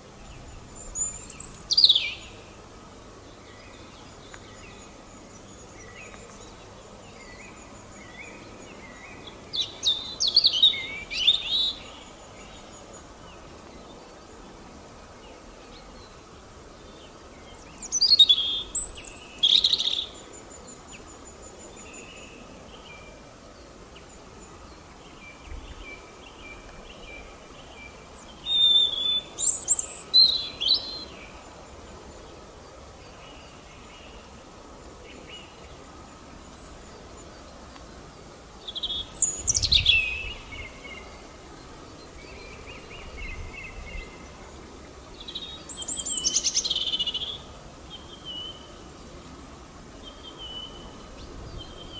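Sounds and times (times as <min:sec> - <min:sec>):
background hiss: 0:00.0 - 0:51.9
songbird singing: 0:00.0 - 0:51.9.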